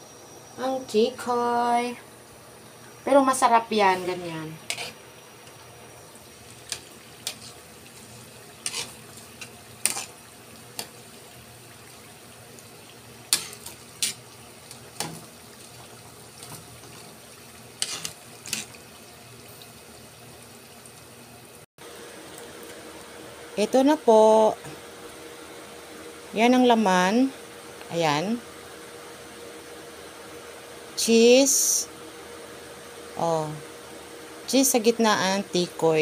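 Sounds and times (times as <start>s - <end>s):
deep-frying sizzle: 0.0s - 36.0s.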